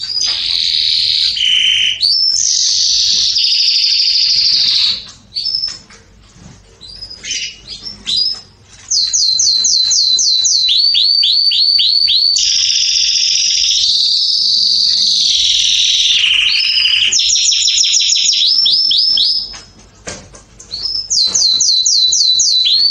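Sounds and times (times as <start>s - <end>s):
canary singing: 0.0s - 19.8s, 20.7s - 22.9s.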